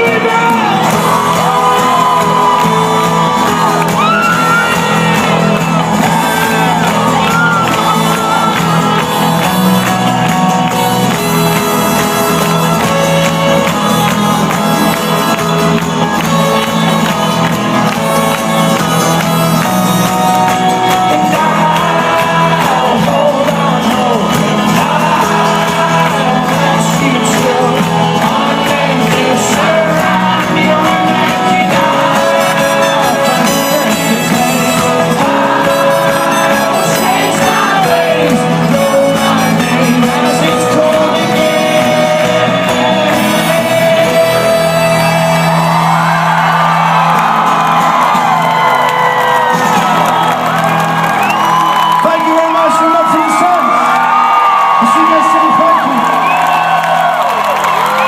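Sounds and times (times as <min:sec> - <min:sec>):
audience shouting and singing along: 0:00.0 - 0:58.0
live folk-rock band playing: 0:00.0 - 0:58.0.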